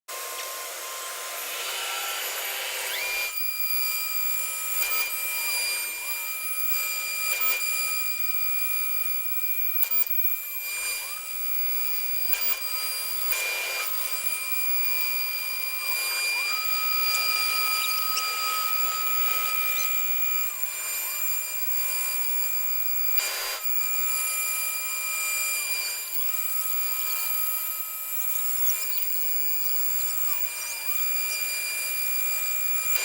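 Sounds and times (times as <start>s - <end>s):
cnc router whining: 0.1s - 33.0s.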